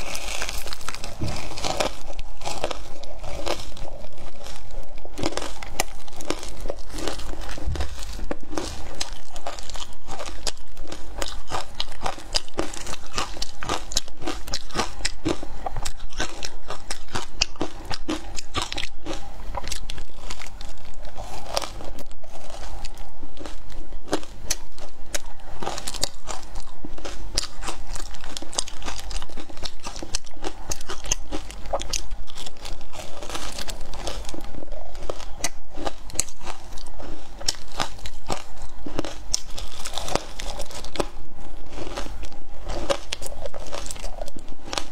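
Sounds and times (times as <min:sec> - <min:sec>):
ice being crunched and chewed: 0:00.0 - 0:44.9.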